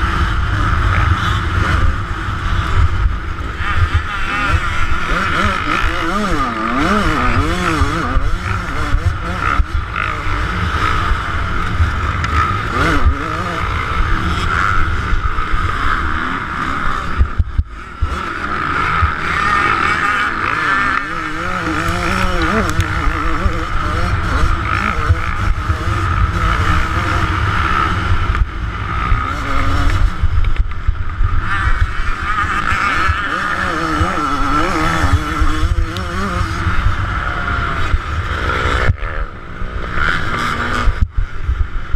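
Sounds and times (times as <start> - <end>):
wind rumble on microphone: 0.0 - 19.6, 20.5 - 41.9
dirt bike engine revving: 0.0 - 41.9.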